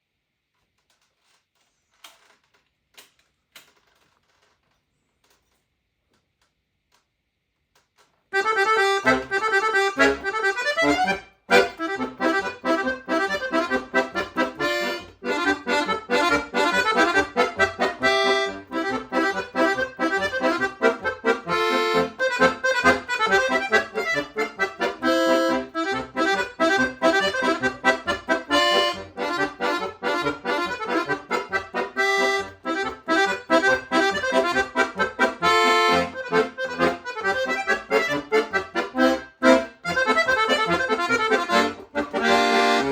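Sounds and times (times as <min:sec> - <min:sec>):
accordion playing quick notes: 0:08.4 - 0:42.9.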